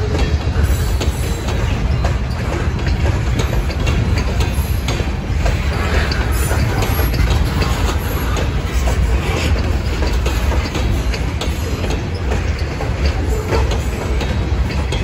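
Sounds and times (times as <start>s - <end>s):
train wheels rumbling on rail: 0.0s - 15.0s
wheels clunking over rail joints: 0.0s - 15.0s.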